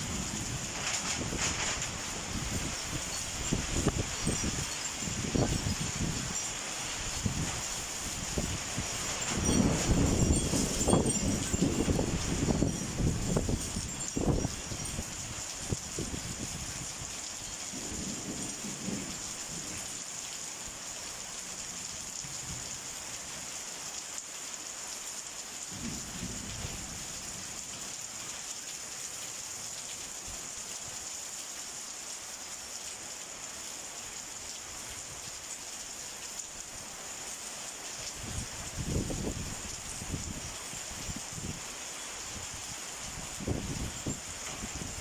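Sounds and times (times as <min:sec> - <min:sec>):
heavy rain hiss: 0:00.0 - 0:45.0.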